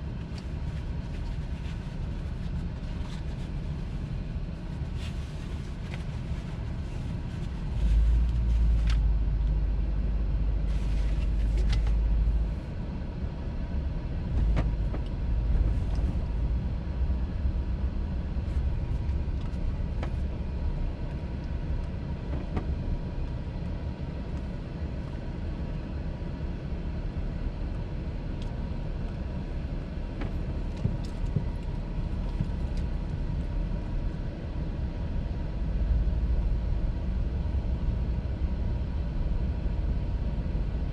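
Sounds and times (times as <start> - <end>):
car engine rumble: 0.0 - 40.9
road noise: 0.0 - 40.9.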